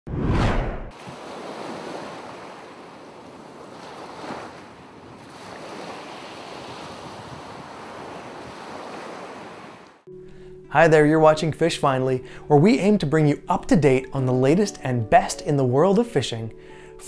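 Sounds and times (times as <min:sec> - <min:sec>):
ocean waves washing: 0:00.5 - 0:17.0.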